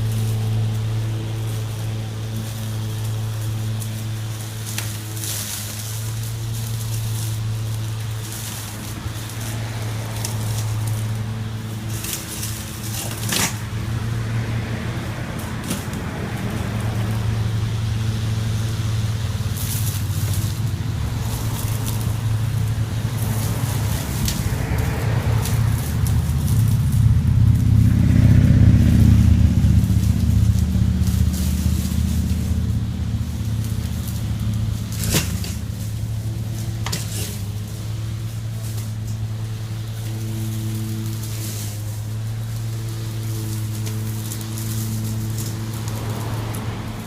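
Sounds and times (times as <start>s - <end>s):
crackling: 0.0s - 47.0s
lawn mower humming: 0.0s - 47.0s.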